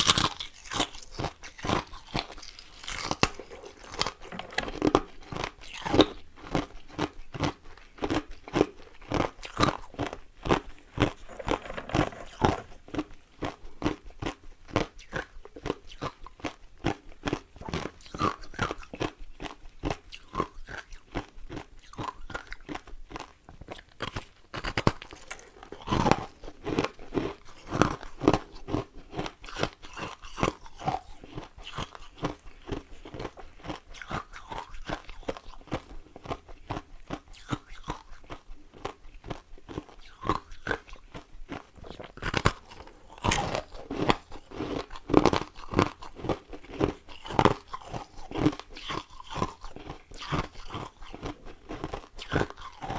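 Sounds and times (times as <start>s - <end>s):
ice cubes being chewed: 0.0s - 52.9s.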